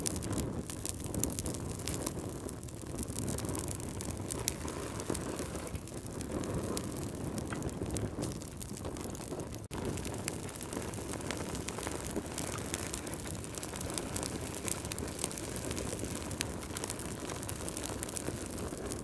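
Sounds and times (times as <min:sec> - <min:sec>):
flames rumbling: 0:00.0 - 0:19.0
wood fire popping and snapping: 0:00.0 - 0:19.0.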